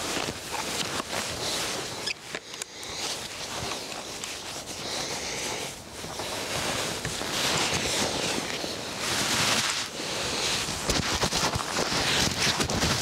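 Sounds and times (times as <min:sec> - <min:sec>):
padded jacket rustling: 0:00.0 - 0:13.0.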